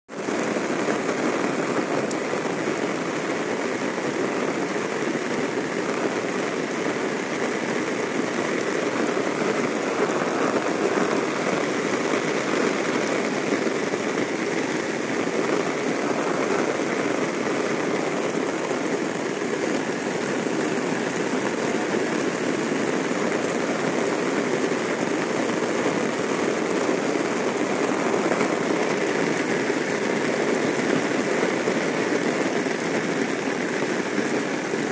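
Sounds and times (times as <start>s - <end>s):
heavy rain on paved road: 0.1s - 34.9s.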